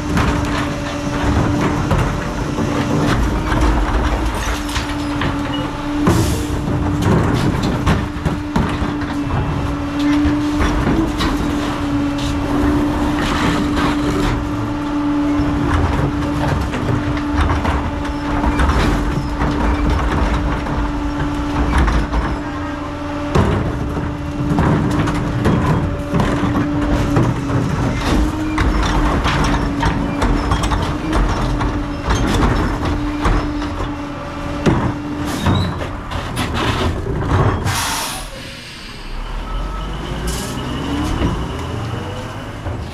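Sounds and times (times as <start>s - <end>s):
falling trash clattering: 0.0s - 37.7s
garbage truck engine humming: 0.0s - 42.9s
trash carts clunking and banging: 0.0s - 42.9s.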